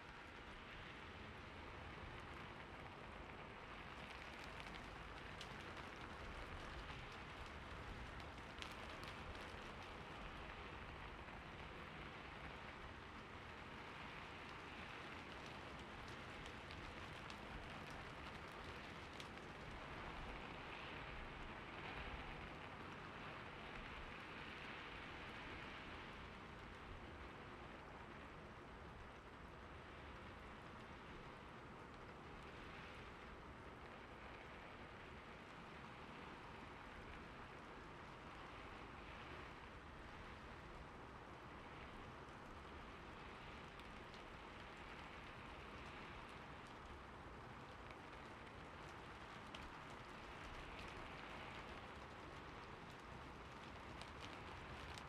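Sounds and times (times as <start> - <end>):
falling water patter: 1.6 - 27.6, 28.6 - 55.0.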